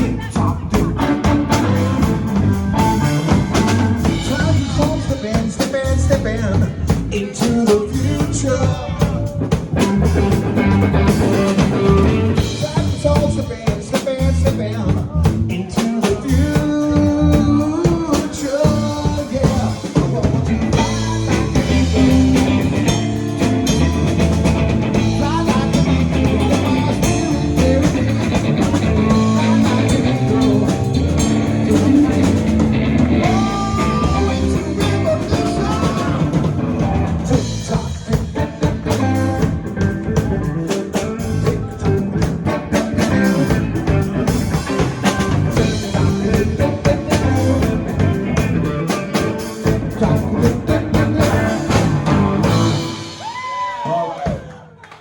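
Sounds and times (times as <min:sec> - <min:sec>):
electric guitar: 0:00.0 - 0:54.3
bass guitar: 0:00.0 - 0:54.5
drum kit: 0:00.0 - 0:54.6
person singing: 0:00.0 - 0:54.8.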